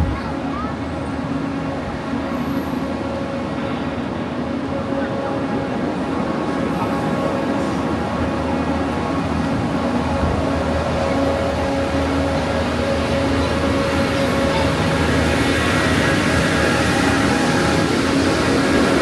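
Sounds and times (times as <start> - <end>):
engine and misting fan drone: 0.0 - 19.0.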